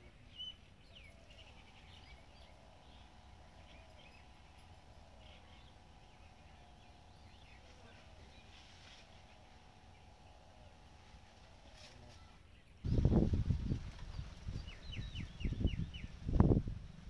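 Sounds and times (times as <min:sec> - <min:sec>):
low steady hum and rumble: 0:00.0 - 0:17.0.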